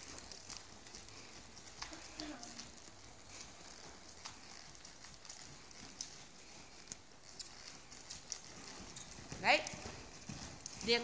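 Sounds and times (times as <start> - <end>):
horse hoofbeats on sand: 0.0 - 11.0.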